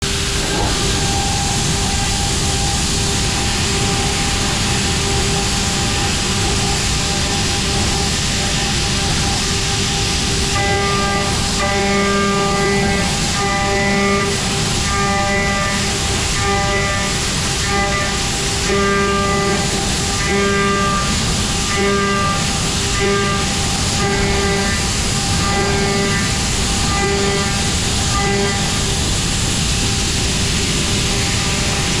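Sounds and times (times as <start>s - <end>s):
constant pitched hum: 0.0s - 32.0s
milling machine cutting metal: 0.0s - 32.0s.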